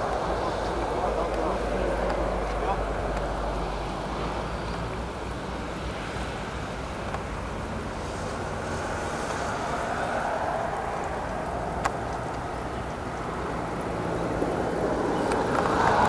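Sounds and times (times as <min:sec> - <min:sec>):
road traffic rushing past: 0:00.0 - 0:16.0.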